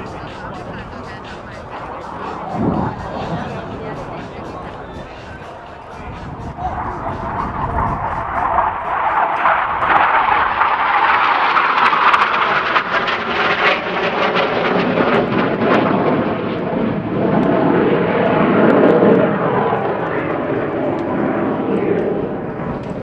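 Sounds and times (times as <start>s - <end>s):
jet engine noise: 0.0s - 23.0s.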